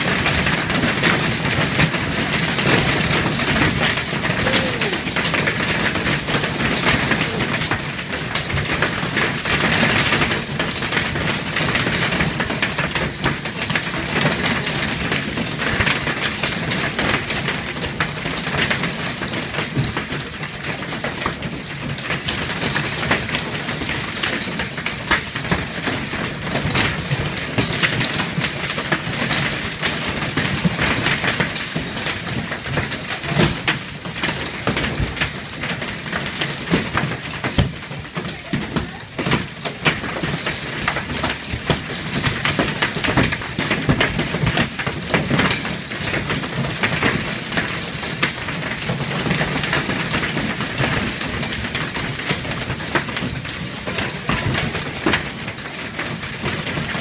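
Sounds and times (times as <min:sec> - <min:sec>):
hail hitting glass windows: 0:00.0 - 0:57.0.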